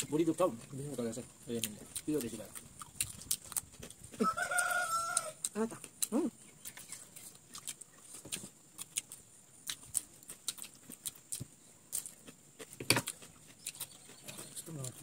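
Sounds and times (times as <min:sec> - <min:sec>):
chewing with wet mouth clicks: 0:01.5 - 0:15.0.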